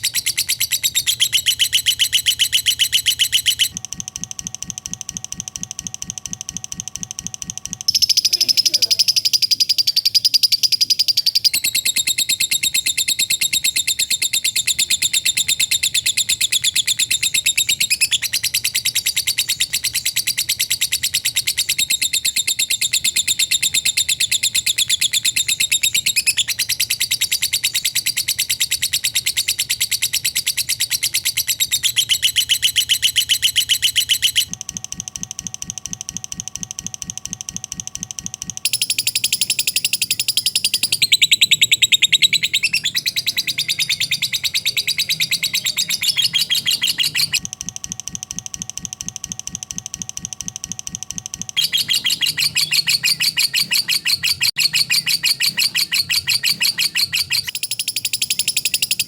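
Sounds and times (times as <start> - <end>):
bird fast chattering trill: 0.0 - 3.8, 4.6 - 34.6, 38.6 - 47.6, 51.5 - 59.0.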